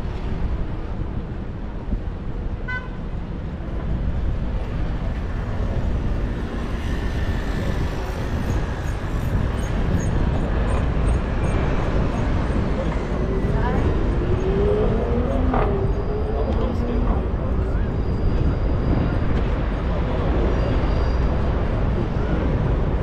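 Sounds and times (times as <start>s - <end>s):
traffic noise: 0.0s - 23.0s
wind: 0.0s - 23.0s.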